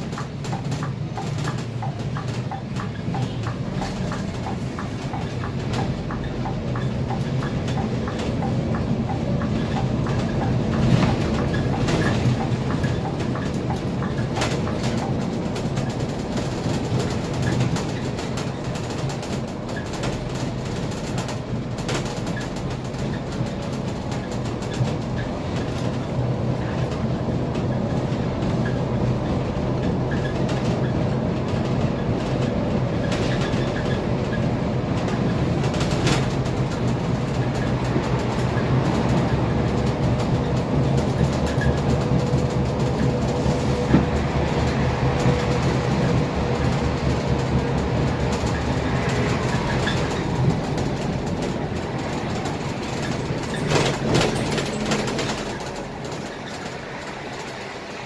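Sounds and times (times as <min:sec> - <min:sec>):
bus engine drone: 0:00.0 - 0:58.0
road rumble: 0:00.0 - 0:58.0.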